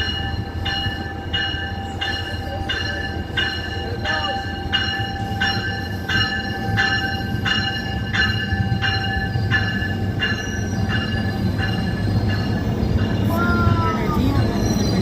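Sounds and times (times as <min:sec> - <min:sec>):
passing train rumble: 0:00.0 - 0:15.0
railway bell ringing: 0:00.0 - 0:15.0.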